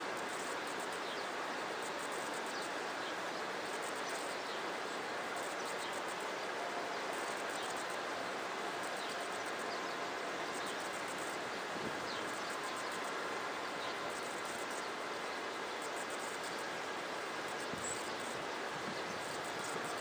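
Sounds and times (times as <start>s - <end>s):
outdoor ambient hiss: 0.0s - 20.0s.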